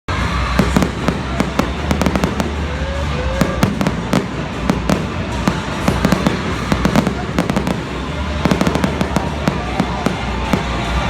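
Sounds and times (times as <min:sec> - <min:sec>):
fireworks bangs and crackling: 0:00.1 - 0:11.0.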